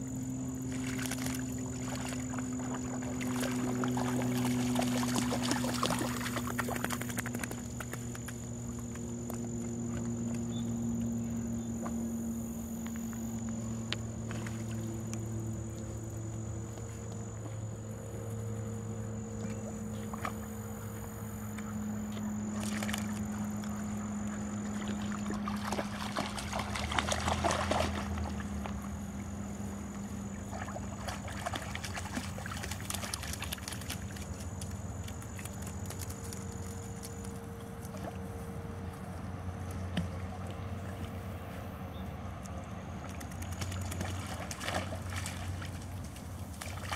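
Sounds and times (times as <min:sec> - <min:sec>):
water splashing and sloshing: 0:00.0 - 0:18.2, 0:19.2 - 0:46.9
steady low hum: 0:00.0 - 0:46.9.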